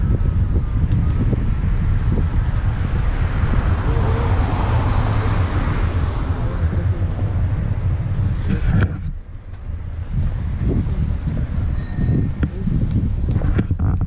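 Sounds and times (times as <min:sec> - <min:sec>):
road traffic rushing by: 0:00.0 - 0:13.8
wind rumble on microphone: 0:00.0 - 0:14.0.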